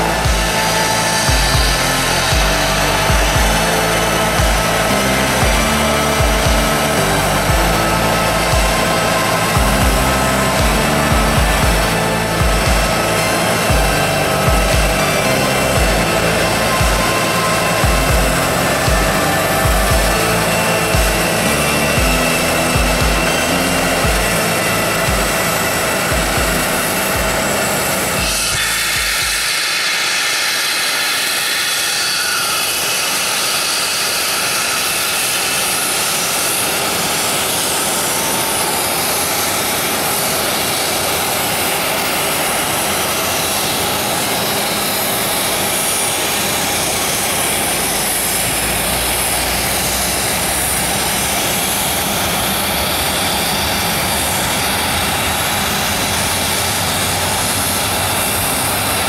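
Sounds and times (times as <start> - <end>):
jet engines roaring: 0.0 - 29.4, 35.9 - 59.0.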